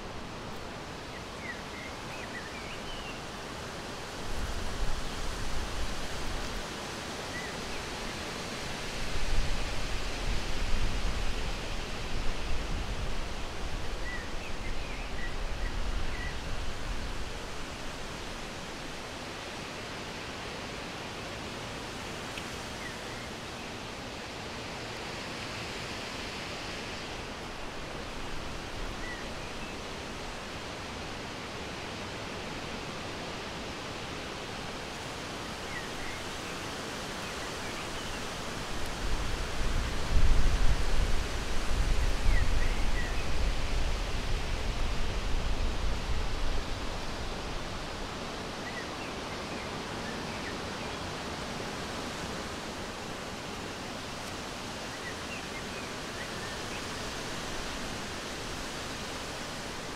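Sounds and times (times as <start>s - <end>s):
wind hiss: 0.0s - 59.9s.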